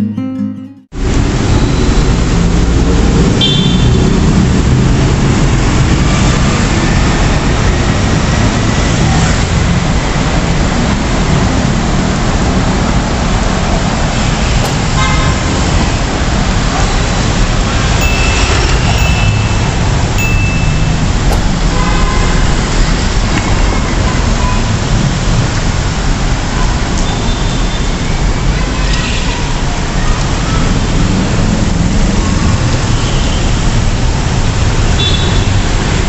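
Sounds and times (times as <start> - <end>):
vehicles passing on wet road: 1.0 - 36.0.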